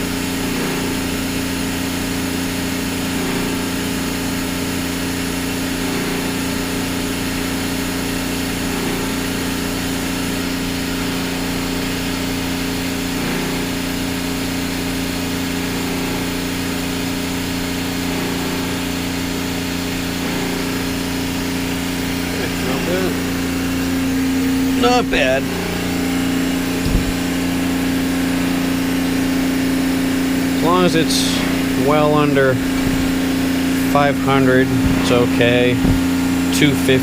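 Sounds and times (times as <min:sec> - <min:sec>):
water maker machinery hum: 0:00.0 - 0:37.0.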